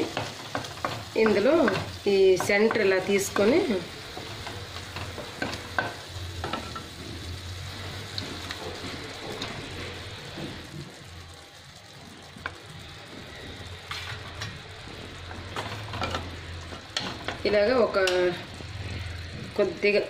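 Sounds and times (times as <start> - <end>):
tomato and onion sizzling: 0.0 - 20.0.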